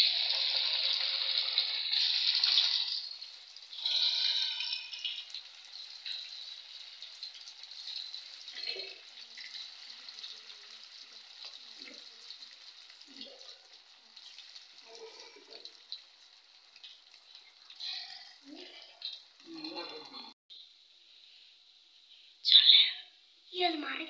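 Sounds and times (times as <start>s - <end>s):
fritters sizzling in hot oil: 0.0s - 20.1s.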